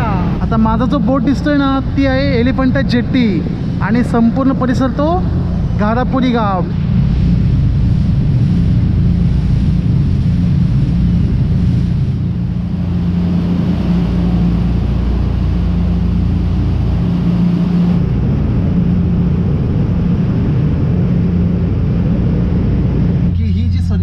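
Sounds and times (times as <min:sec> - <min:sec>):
boat engines droning: 0:00.0 - 0:24.0
churning wake rushing: 0:00.0 - 0:24.0.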